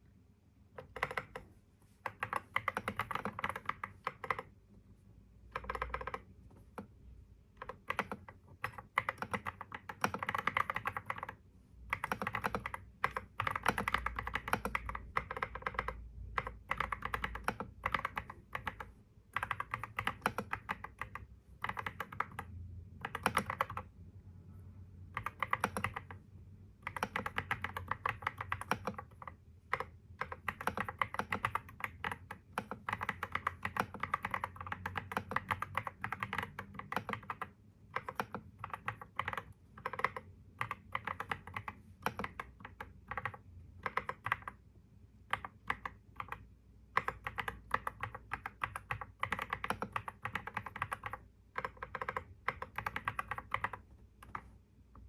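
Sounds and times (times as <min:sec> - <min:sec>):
typing on computer keyboard: 0:00.7 - 0:04.6, 0:05.5 - 0:23.9, 0:25.1 - 0:44.6, 0:45.2 - 0:55.0.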